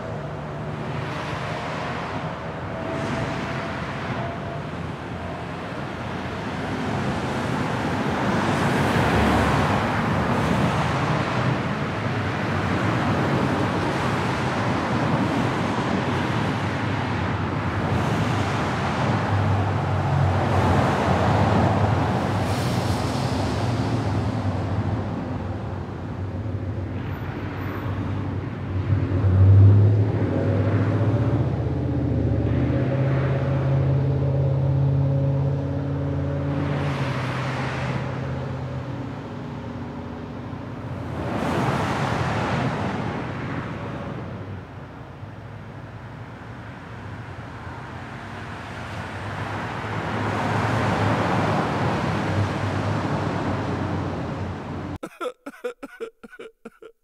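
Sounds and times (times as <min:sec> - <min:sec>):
cars passing: 0:00.0 - 0:55.0.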